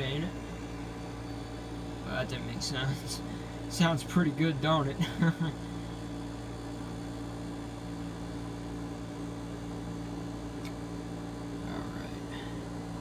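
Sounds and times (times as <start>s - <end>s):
dehumidifier humming: 0.0s - 13.0s.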